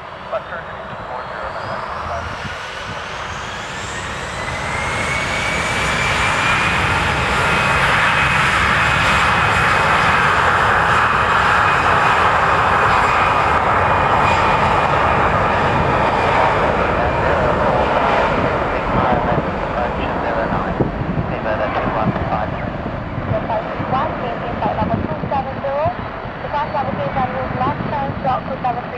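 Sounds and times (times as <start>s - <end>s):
jet engines whining: 0.0s - 28.9s.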